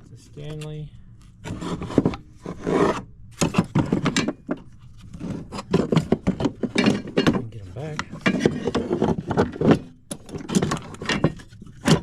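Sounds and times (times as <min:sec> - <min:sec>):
tools scraping in wooden toolbox: 0:01.4 - 0:04.4, 0:05.0 - 0:12.0.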